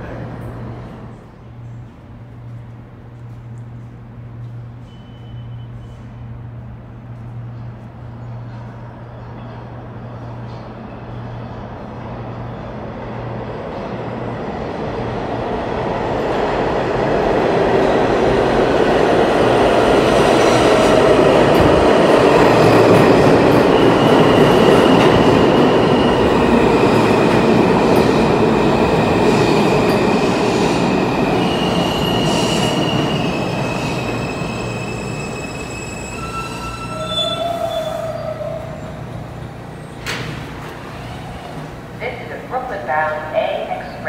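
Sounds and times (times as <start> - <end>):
train wheel rumble: 0.0 - 44.0.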